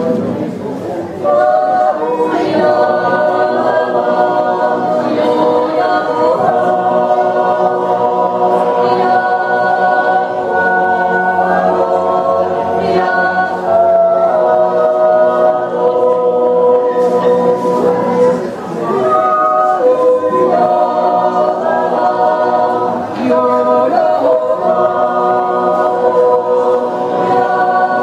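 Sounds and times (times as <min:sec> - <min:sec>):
choir yodelling a cappella: 0:00.0 - 0:28.0.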